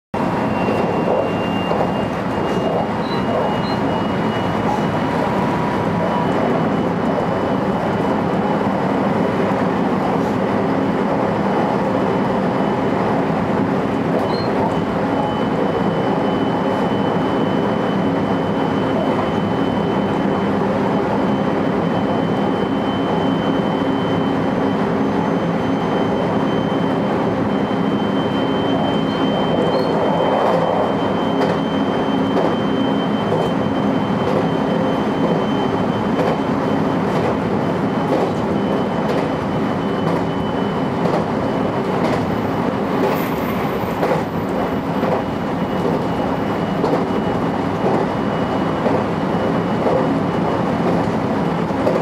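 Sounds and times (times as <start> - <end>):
train wheels rumbling on rail: 0.2 - 52.0.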